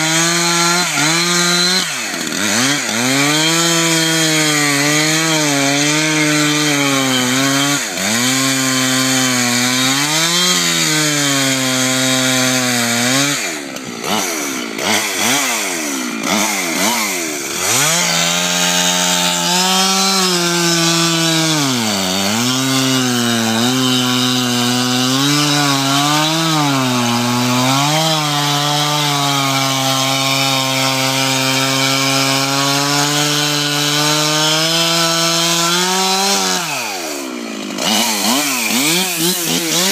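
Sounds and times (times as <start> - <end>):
chainsaw cutting through ice: 0.0 - 39.9.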